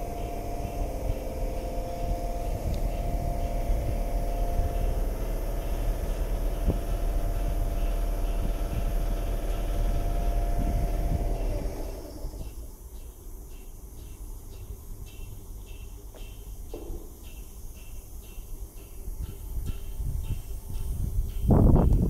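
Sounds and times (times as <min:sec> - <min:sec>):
train equipment humming: 0:00.0 - 0:22.0.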